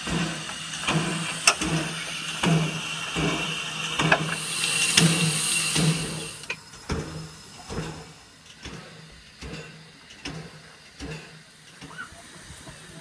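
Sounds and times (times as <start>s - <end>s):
steam locomotive beat: 0.0s - 13.0s.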